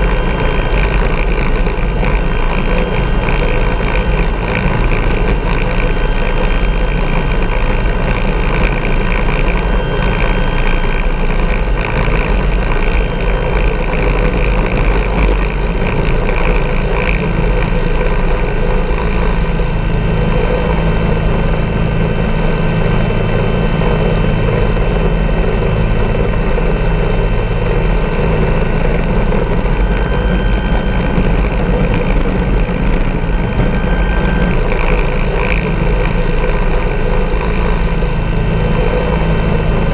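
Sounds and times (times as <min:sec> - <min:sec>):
helicopter rotor low rumble: 0:00.0 - 0:39.9
helicopter turbine whine: 0:00.0 - 0:39.9.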